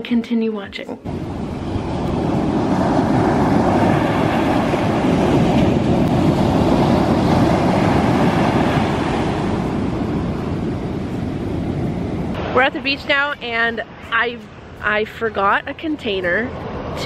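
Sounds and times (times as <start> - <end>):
ocean surf breaking: 1.0 - 17.0
wind buffeting microphone: 1.1 - 17.0.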